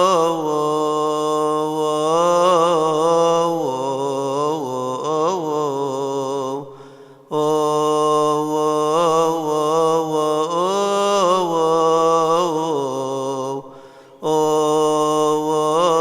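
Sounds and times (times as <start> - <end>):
man chanting a hymn: 0.0 - 16.0.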